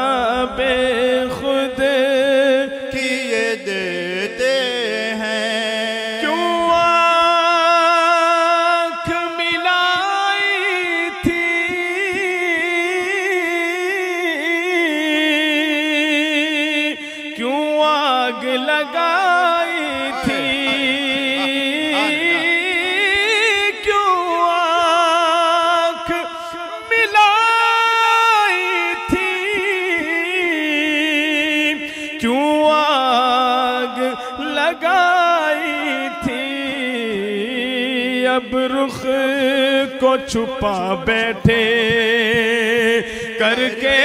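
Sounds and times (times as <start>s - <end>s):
man singing unaccompanied: 0.0s - 44.0s.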